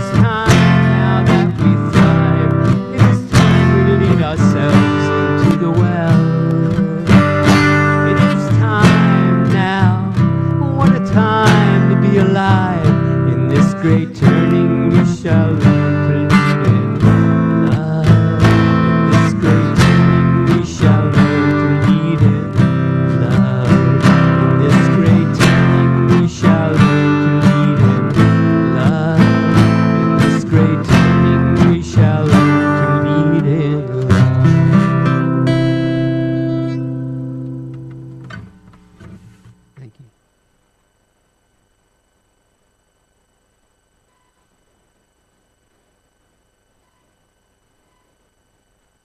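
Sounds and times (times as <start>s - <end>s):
acoustic guitar strumming: 0.0s - 39.6s.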